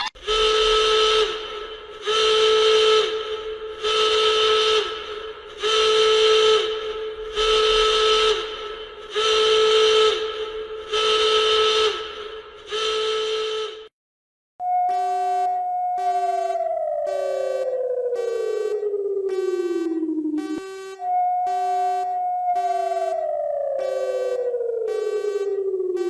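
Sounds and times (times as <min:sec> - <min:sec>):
emergency alarm horn blasts: 0:00.0 - 0:13.9, 0:14.6 - 0:26.0.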